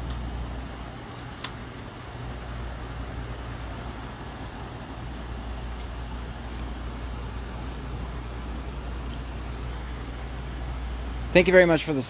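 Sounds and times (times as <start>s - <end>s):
low vehicle rumble: 0.0s - 12.0s
road noise: 0.0s - 12.0s.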